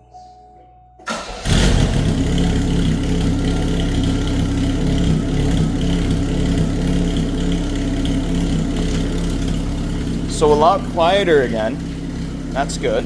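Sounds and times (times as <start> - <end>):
car engine idling: 1.1 - 13.0.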